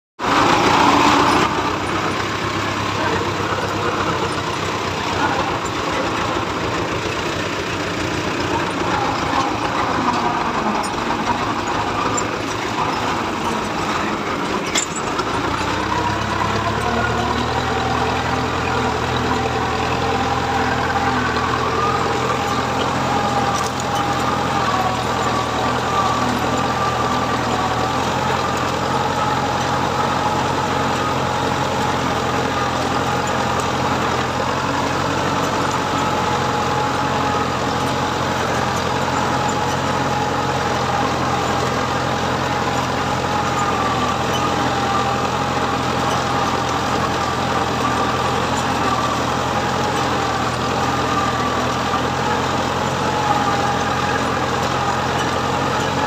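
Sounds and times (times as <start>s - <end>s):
tractor diesel engine running: 0.2s - 56.0s.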